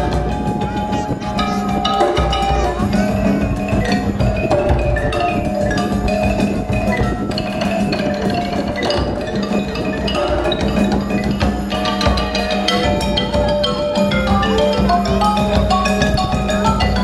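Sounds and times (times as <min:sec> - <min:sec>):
drum strokes: 0:00.0 - 0:17.0
marimba notes: 0:00.0 - 0:17.0.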